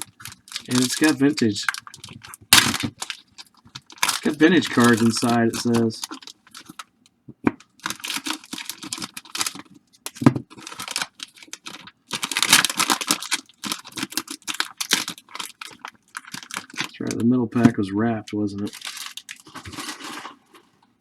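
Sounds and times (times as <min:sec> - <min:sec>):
plastic wrapping crackling and tearing: 0:00.0 - 0:06.9, 0:07.6 - 0:17.8, 0:18.4 - 0:20.8.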